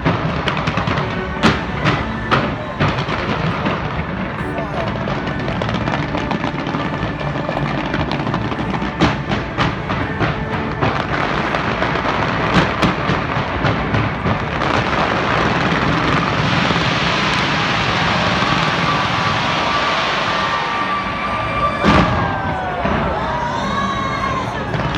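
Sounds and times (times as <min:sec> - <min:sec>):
fireworks bangs and crackles: 0:00.0 - 0:23.5, 0:24.5 - 0:24.9
dense rush of sound: 0:00.0 - 0:24.9.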